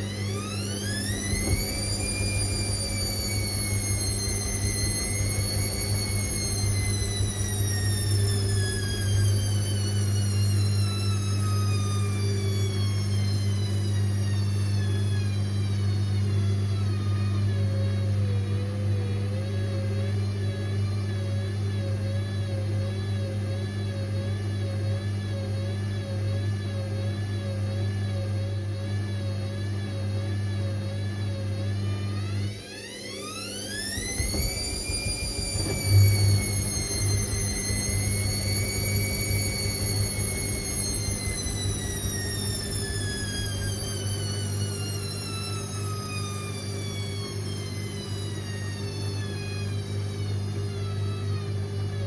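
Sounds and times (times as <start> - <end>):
washing machine drum motor whine: 0.0 - 52.0
washing machine low hum: 0.0 - 52.0.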